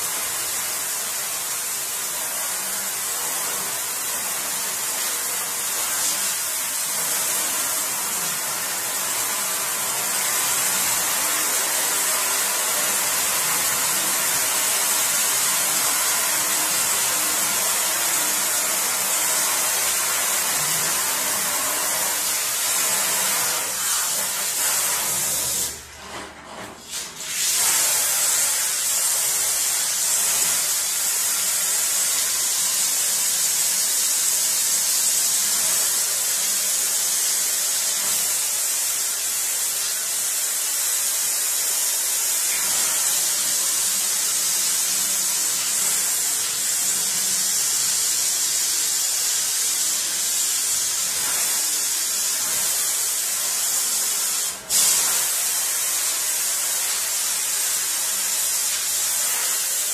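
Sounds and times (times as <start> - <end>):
water spraying into a steel sink: 0.0 - 26.0, 26.7 - 59.9.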